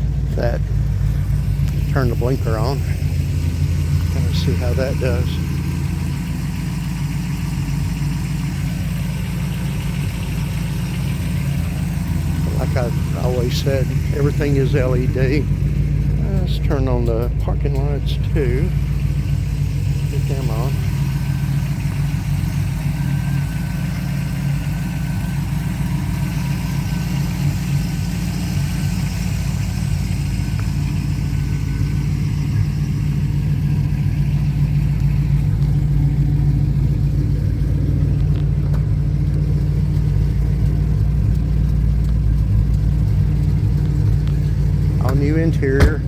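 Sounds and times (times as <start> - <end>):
pickup engine idling: 0.0 - 46.0.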